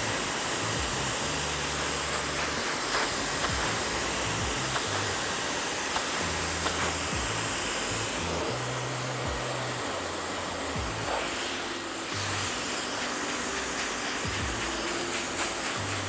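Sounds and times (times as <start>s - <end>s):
background music with bass: 0.0s - 5.3s, 6.0s - 12.7s, 13.6s - 16.0s
hair dryer blowing: 0.0s - 16.0s.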